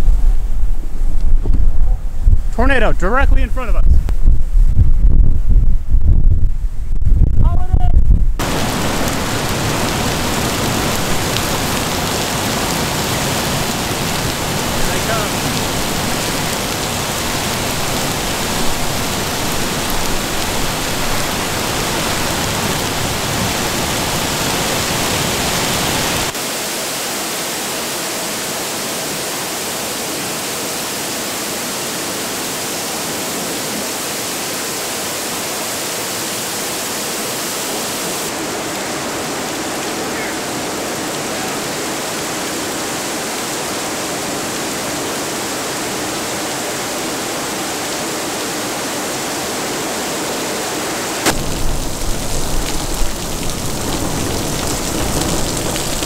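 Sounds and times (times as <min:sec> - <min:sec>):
hail and heavy rain on pavement: 0:08.4 - 0:56.0.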